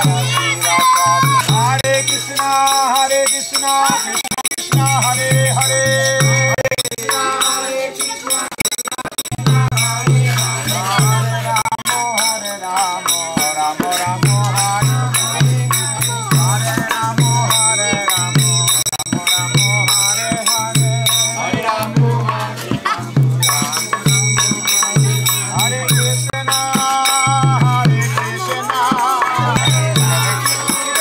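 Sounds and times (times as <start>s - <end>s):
ringing metallic percussion: 0.0s - 31.0s
steady drum beat: 0.0s - 31.0s
voices chanting: 0.0s - 31.0s.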